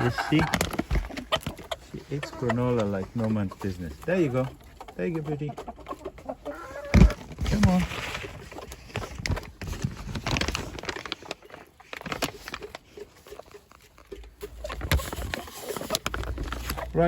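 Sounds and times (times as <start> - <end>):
chickens pecking: 0.0 - 17.0.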